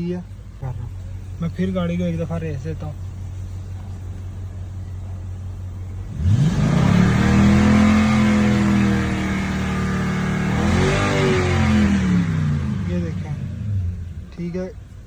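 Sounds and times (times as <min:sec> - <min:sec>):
engine idling and revving: 0:00.0 - 0:15.0.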